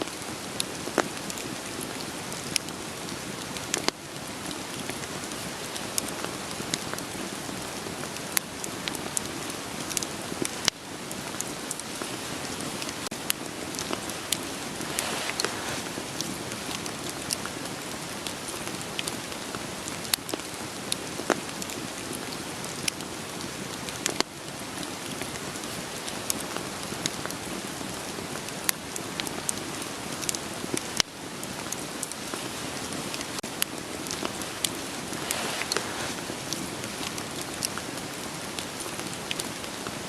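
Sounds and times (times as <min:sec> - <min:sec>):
steady rain falling: 0:00.0 - 0:40.0
wood fire crackling: 0:00.0 - 0:40.0.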